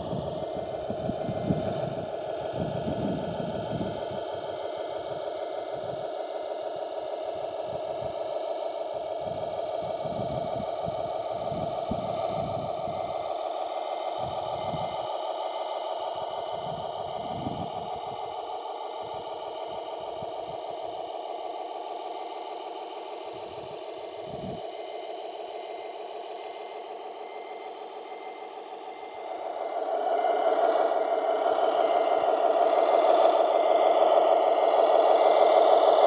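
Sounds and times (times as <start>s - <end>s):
model vehicle electric drive whining: 0.0s - 36.0s.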